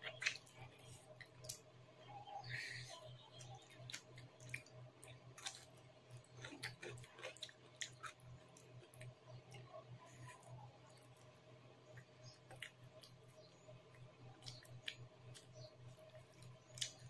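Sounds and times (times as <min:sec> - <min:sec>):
chewing with wet mouth clicks: 0:00.0 - 0:01.7, 0:03.2 - 0:17.0
low steady hum: 0:00.0 - 0:17.0.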